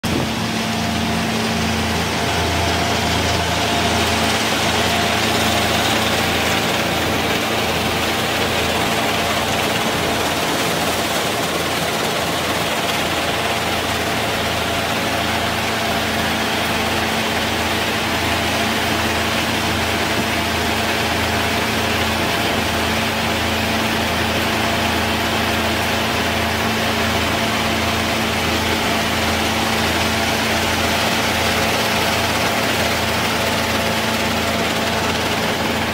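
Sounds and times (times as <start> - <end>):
motor and fan hum: 0.0 - 35.9.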